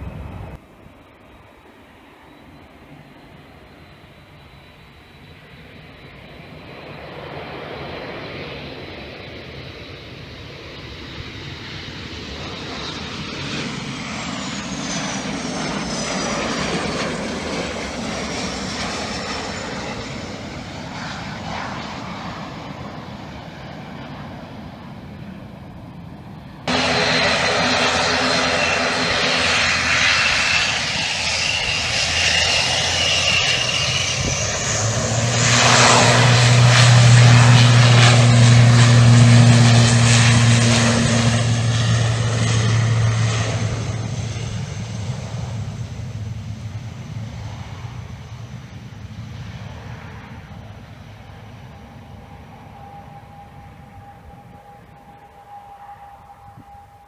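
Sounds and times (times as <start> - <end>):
jet landing with falling whine: 0.0 - 57.0
turboprop engines droning: 0.0 - 57.0.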